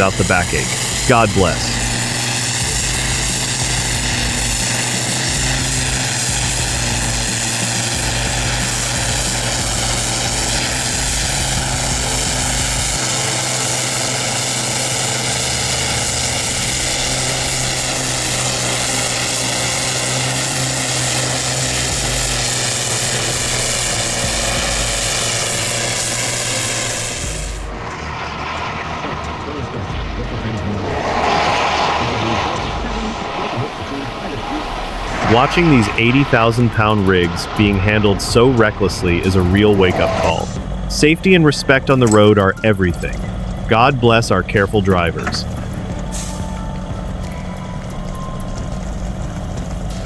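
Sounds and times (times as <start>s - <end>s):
engine running steadily: 0.0s - 50.0s.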